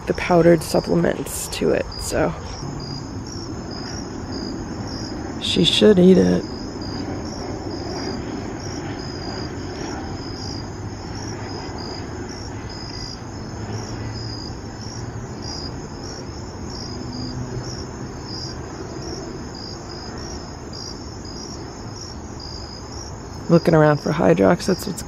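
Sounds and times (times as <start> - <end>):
crickets chirping: 0.0 - 25.0
low background rumble: 0.0 - 25.0.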